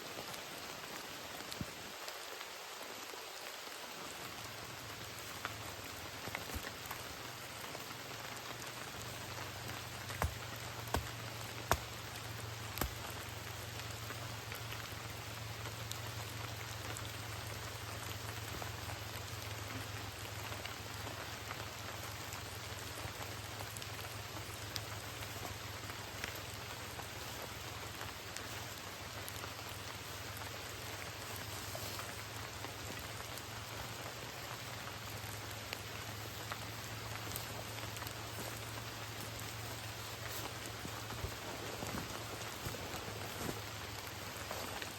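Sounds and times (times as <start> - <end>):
heavy rain: 0.0 - 44.9
raindrops striking close by: 0.0 - 44.9.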